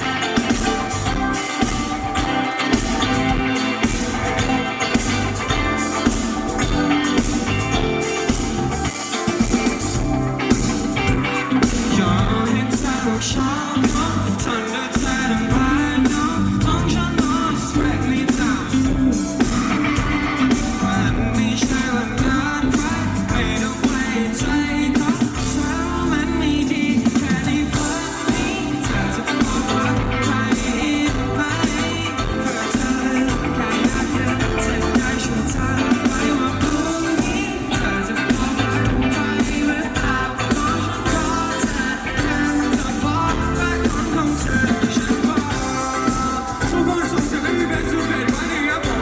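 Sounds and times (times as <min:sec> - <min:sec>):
bass line: 0:00.0 - 0:49.0
live pop-rock band playing: 0:00.0 - 0:49.0
person singing: 0:00.0 - 0:49.0.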